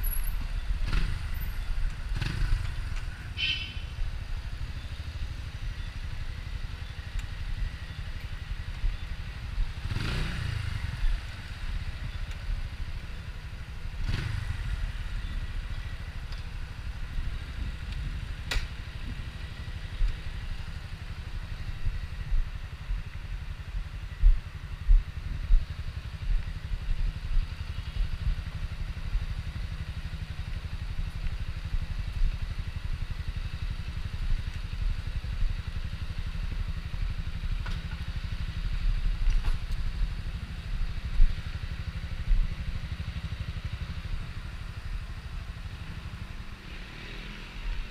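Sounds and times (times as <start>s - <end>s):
motorcycle engine idling: 0.0s - 46.8s.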